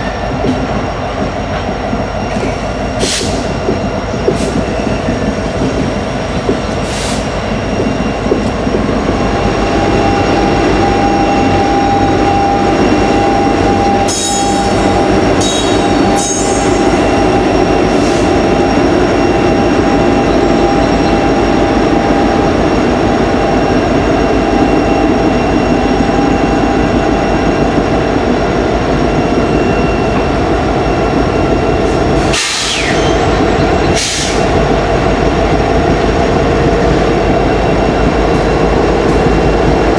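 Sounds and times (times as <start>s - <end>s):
railroad cars rumbling and clattering: 0.0s - 39.9s.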